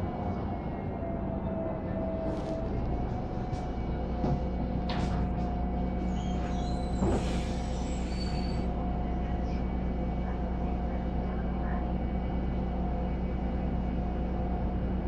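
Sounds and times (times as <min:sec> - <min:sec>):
bus engine hum from inside: 0:00.0 - 0:15.0.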